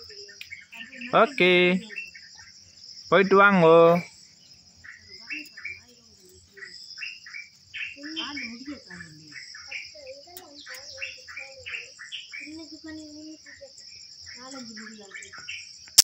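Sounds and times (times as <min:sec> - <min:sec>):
bird chirping: 0:00.0 - 0:16.0
crickets chirring: 0:00.0 - 0:16.0.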